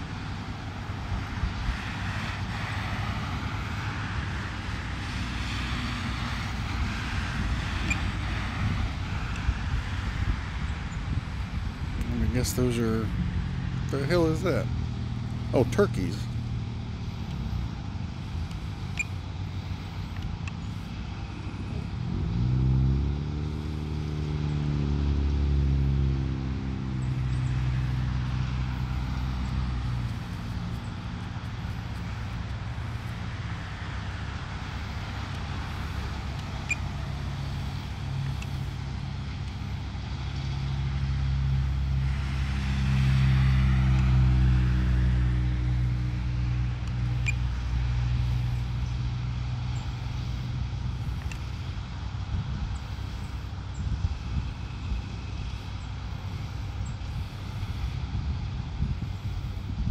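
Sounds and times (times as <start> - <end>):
tyre and road noise: 0.0 - 59.9
vehicle engine running: 0.0 - 59.9.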